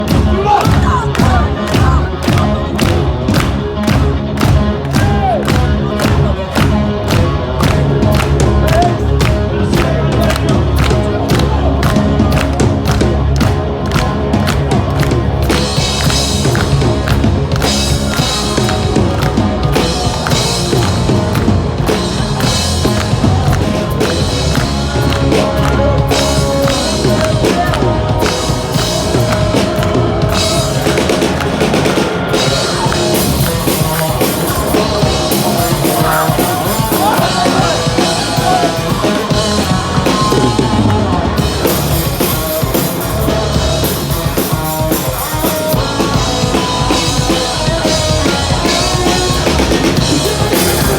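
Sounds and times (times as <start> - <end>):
hard rock band playing live: 0.0 - 50.9.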